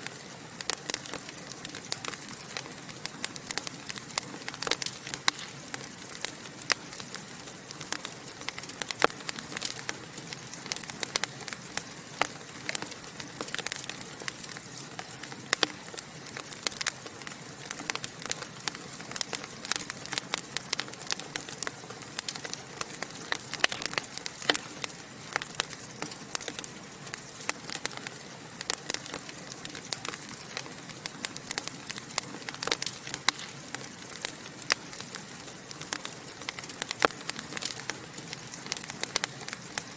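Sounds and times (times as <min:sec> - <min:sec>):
fire crackling: 0:00.0 - 0:39.9
sharp pops and snaps: 0:00.0 - 0:39.9.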